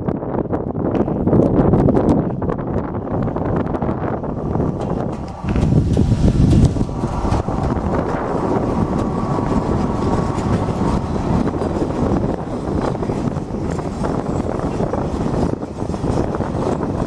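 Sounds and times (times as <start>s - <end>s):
train wheels rumbling on rails: 0.9s - 17.0s.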